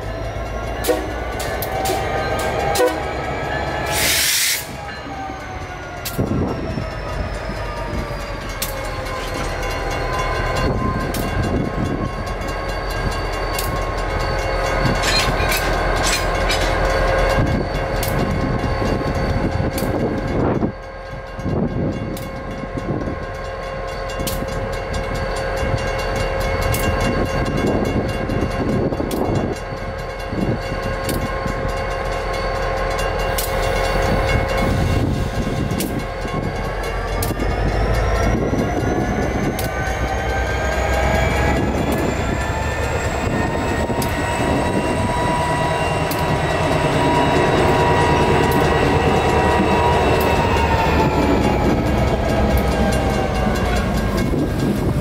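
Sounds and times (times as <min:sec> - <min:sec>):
crossing bells ringing: 0:00.0 - 0:04.0, 0:04.7 - 0:55.0
diesel locomotive engine: 0:00.0 - 0:55.0.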